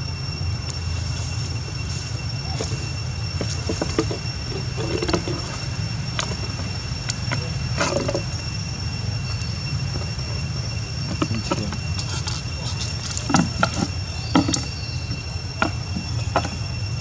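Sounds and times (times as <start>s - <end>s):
insects droning: 0.0s - 17.0s
low background rumble: 0.0s - 17.0s.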